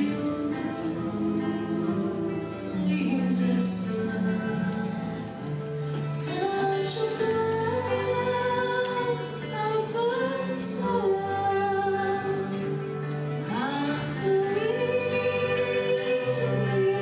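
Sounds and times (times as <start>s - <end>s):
woman singing slow song: 0.0s - 5.4s, 6.2s - 12.8s, 13.4s - 17.0s
instrumental accompaniment: 0.0s - 17.0s.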